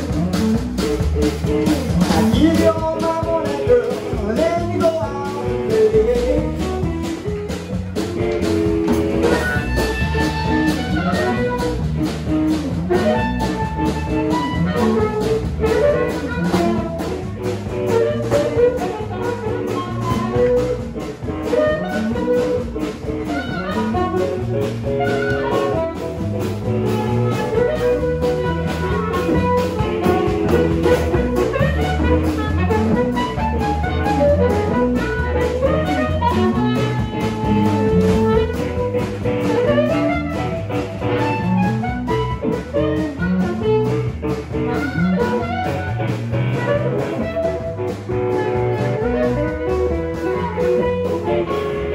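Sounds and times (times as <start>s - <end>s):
drum kit beat: 0.0s - 51.9s
electric guitar: 0.0s - 51.9s
harmonica through microphone: 0.0s - 51.9s.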